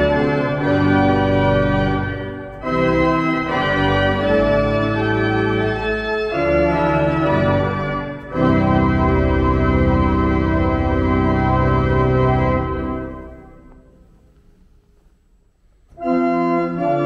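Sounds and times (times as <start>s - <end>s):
pipe organ playing chords: 0.0s - 14.5s, 15.8s - 17.0s.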